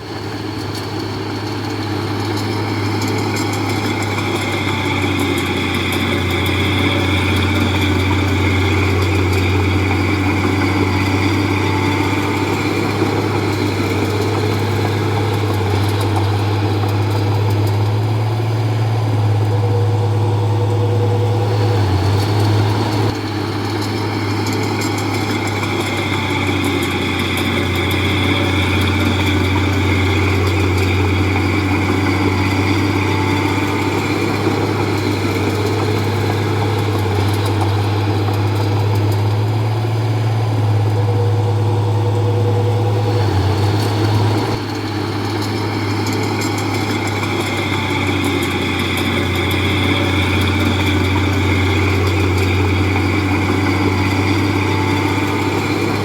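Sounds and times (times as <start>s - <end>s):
bulldozer diesel engine running: 0.0s - 56.0s
high-pitched whine: 0.0s - 56.0s.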